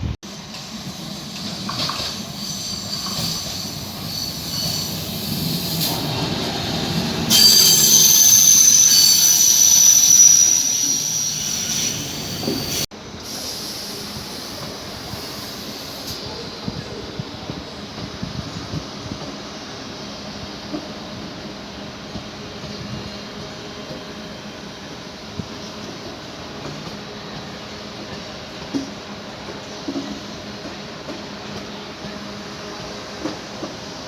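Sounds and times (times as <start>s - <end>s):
low train rumble: 0.0s - 34.0s
train wheels squealing on rails: 0.3s - 34.0s.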